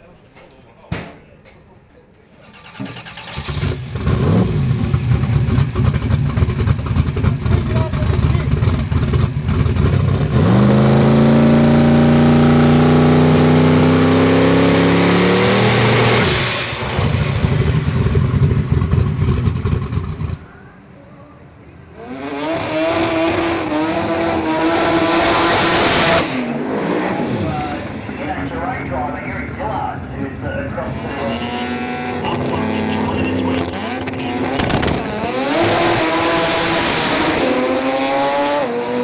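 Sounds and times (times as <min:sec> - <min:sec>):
drag car engine at full throttle: 0:02.4 - 0:20.7, 0:21.9 - 0:39.0.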